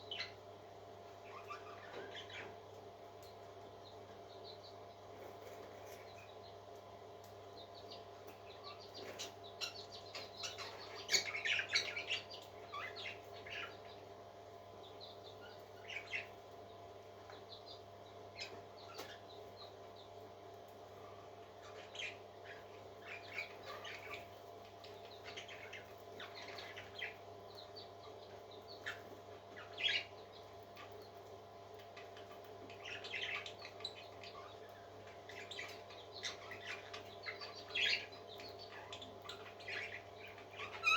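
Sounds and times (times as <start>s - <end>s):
baby parrots peeping: 0.0s - 40.9s.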